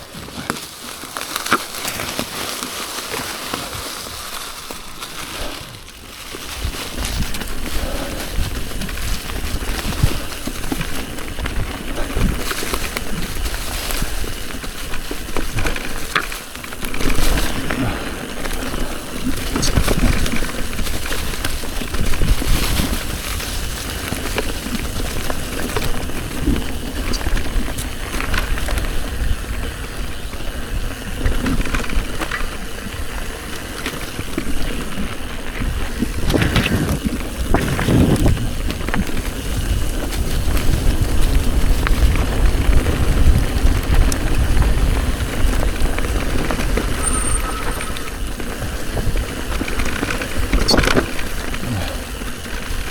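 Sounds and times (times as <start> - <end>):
bike knocking and rattling: 0.0 - 52.9
tyres running over dirt and stones: 0.0 - 52.9
wind buffeting microphone: 6.4 - 33.6, 34.2 - 52.9.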